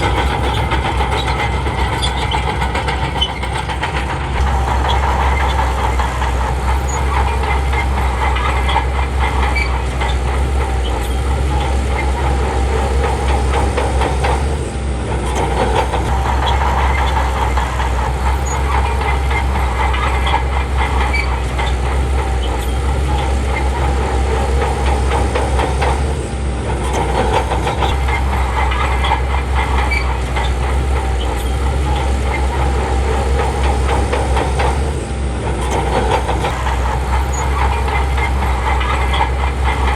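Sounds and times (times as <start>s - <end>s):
bulldozer diesel engine: 0.0s - 39.9s
steel tracks clattering: 0.0s - 39.9s.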